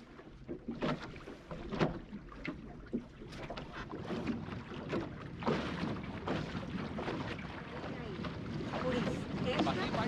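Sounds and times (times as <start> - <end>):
rush of wind and water: 0.0 - 10.0
water slapping against boat hull: 0.0 - 10.0.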